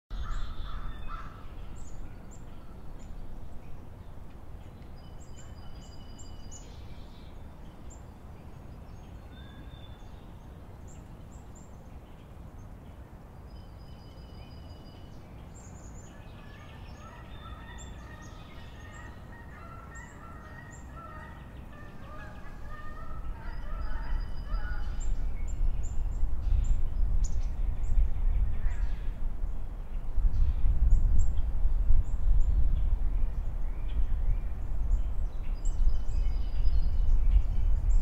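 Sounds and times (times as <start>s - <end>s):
songbirds chirping and whistling: 0.1s - 29.2s, 29.9s - 38.0s.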